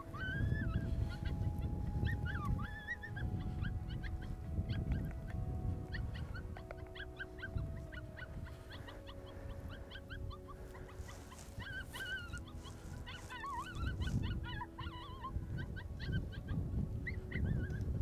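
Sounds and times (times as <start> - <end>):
high coyote-style yips: 0.0 - 18.0.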